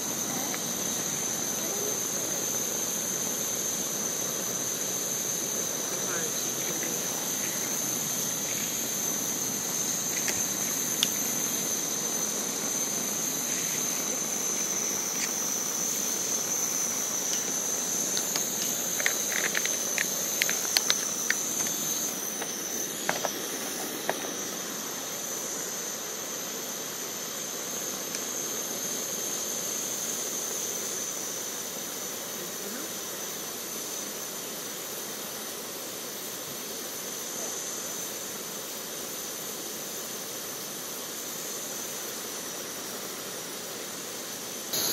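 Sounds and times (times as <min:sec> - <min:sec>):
constant hiss: 0:00.0 - 0:44.9
high insect drone: 0:00.0 - 0:44.9.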